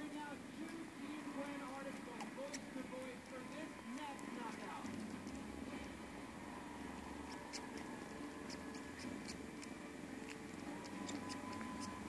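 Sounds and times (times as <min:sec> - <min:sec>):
kitten sucking on paw: 0:00.3 - 0:12.0.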